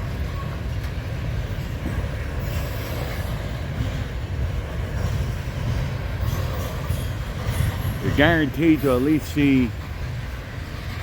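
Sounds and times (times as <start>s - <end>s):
freight train rumbling over track: 0.0s - 11.0s.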